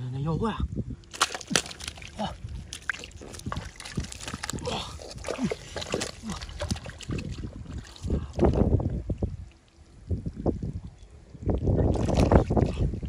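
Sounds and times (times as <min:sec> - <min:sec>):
water sloshing and splashing: 0:01.0 - 0:13.0.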